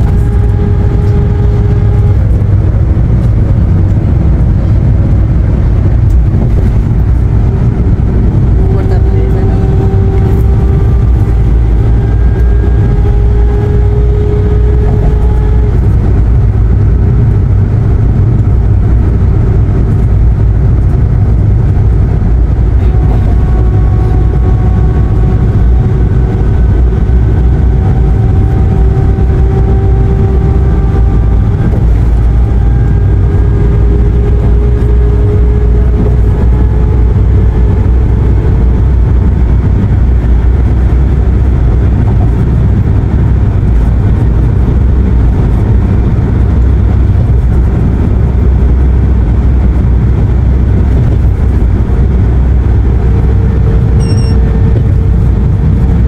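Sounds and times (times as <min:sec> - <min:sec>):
drone rising and falling in pitch: 0:00.0 - 0:56.0
road and engine rumble in van: 0:00.0 - 0:56.0.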